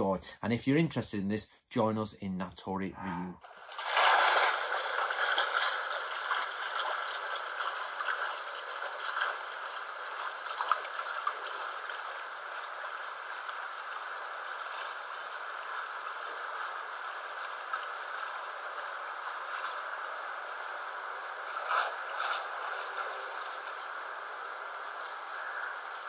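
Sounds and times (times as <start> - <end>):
faint splashes and ticks: 4.8 - 26.0.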